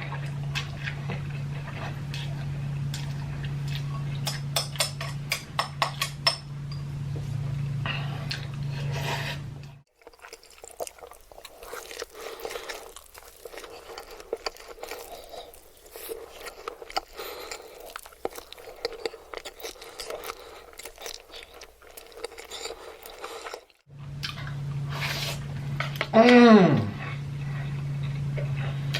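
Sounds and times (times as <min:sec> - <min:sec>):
chewing with crunches: 0:00.0 - 0:05.3, 0:07.1 - 0:26.1, 0:26.8 - 0:28.9.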